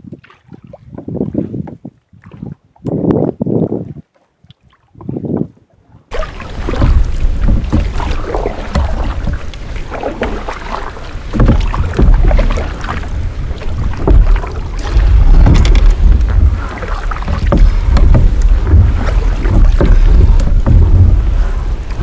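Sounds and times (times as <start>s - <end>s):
paddle splashing in water: 0.0s - 2.8s, 5.8s - 22.0s
wind on microphone: 0.0s - 22.0s.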